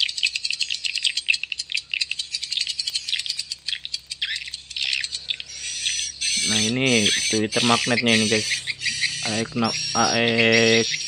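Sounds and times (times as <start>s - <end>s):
recorded swiftlet chirps: 0.0s - 11.0s.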